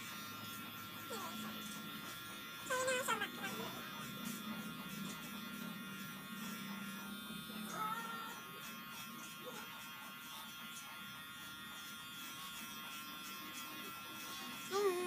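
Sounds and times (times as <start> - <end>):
electric clipper buzzing: 0.0 - 15.0.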